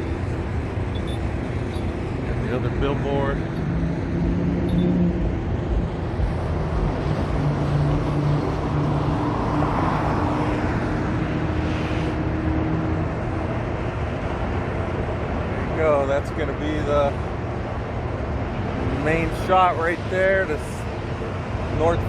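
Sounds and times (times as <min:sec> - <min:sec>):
vehicles driving past: 0:00.0 - 0:22.0.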